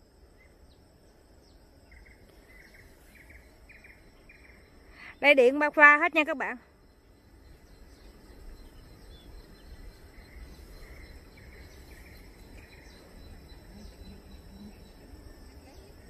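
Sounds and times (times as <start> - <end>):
insect trill: 0.0 - 16.0
bird chirps: 1.4 - 5.4, 6.4 - 16.0.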